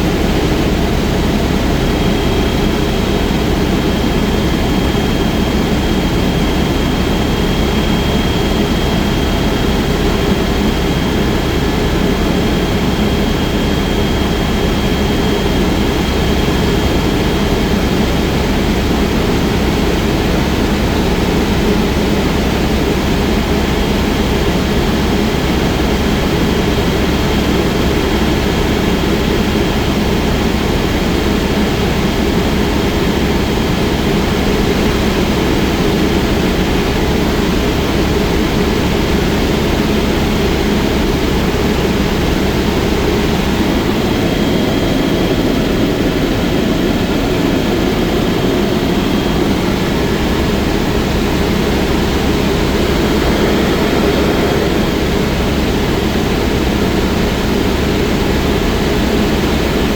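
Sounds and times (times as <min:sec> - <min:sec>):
helicopter engine and rotor drone: 0:00.0 - 0:59.9
high turbine whine: 0:00.0 - 0:59.9.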